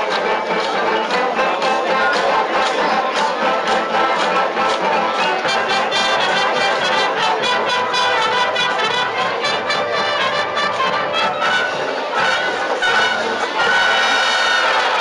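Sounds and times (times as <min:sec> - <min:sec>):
drums keeping a beat: 0:00.0 - 0:15.0
marching band brass: 0:00.0 - 0:15.0.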